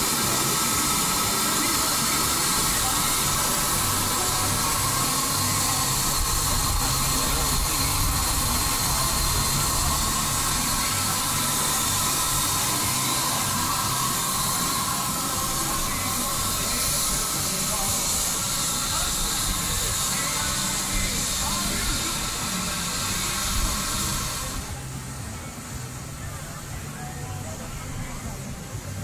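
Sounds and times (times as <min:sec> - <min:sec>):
steam hissing: 0:00.0 - 0:29.0.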